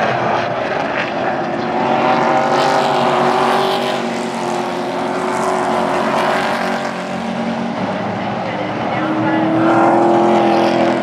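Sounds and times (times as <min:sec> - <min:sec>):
race truck engines roaring: 0:00.0 - 0:11.0.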